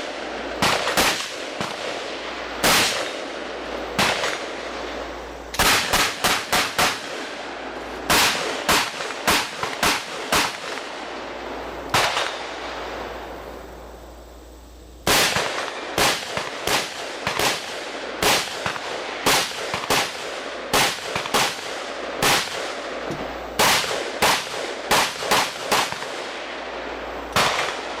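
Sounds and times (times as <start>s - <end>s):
rifle shots: 0.0s - 11.2s, 11.9s - 13.0s, 15.0s - 26.5s, 27.3s - 28.0s.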